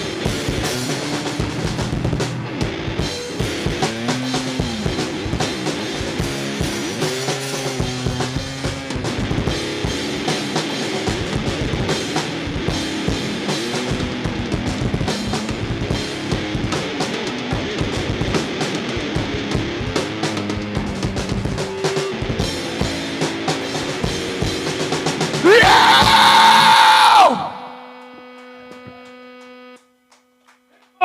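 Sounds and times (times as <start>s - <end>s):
drum kit beat: 0.0s - 29.6s
rock band playing: 0.0s - 29.6s
guitar lines: 0.0s - 29.8s.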